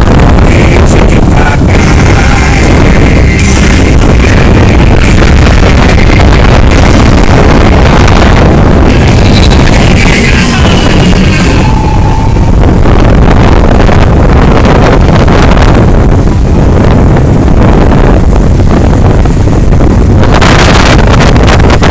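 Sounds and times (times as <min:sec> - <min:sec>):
motorboat engine running: 0:00.0 - 0:21.9
wind buffeting microphone: 0:00.0 - 0:21.9.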